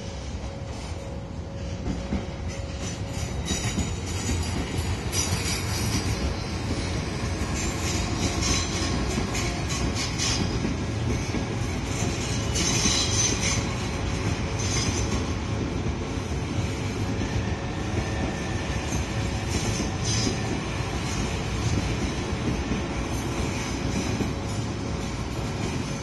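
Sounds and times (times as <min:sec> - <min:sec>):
train wheels clattering and squealing: 0:00.0 - 0:26.0.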